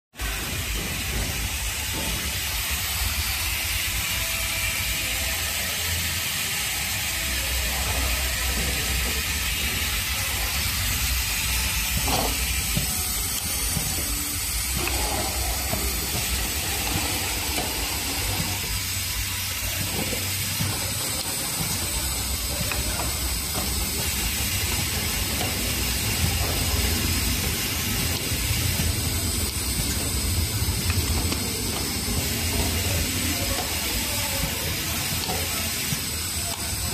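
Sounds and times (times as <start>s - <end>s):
machine mechanical hiss: 0.2s - 36.9s.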